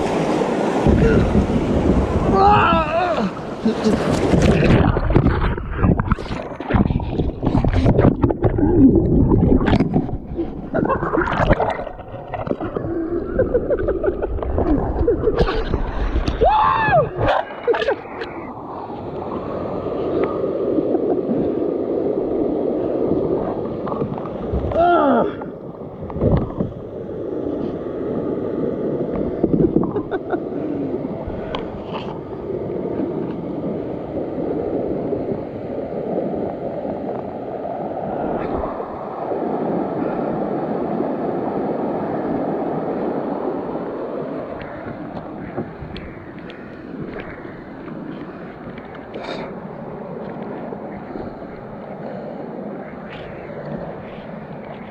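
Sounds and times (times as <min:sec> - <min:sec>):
creek water rushing and gurgling: 0:00.0 - 0:54.9.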